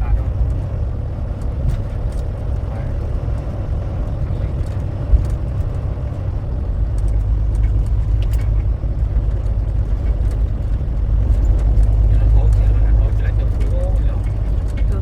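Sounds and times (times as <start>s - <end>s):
truck rumbling on road: 0.0s - 15.0s.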